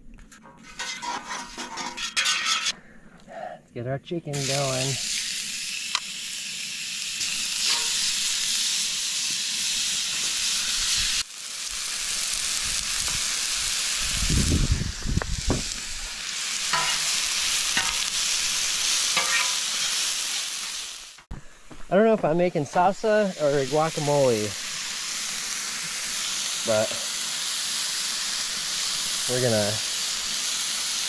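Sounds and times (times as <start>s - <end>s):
food sizzling on a griddle: 4.3s - 21.3s, 22.4s - 31.0s.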